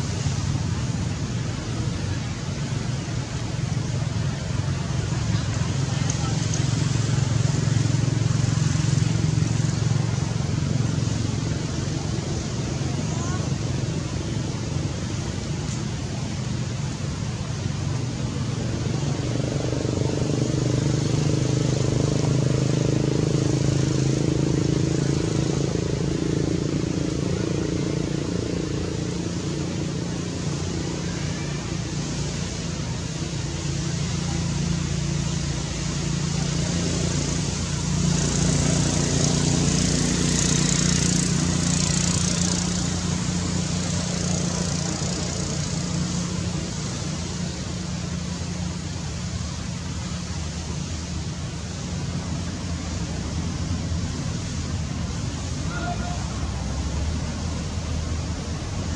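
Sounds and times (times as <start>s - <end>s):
constant hiss: 0.0s - 58.9s.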